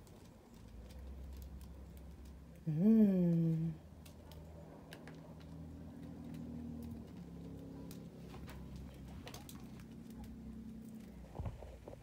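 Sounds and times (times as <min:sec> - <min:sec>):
bird cracking seeds: 0:00.0 - 0:02.7, 0:03.8 - 0:11.3.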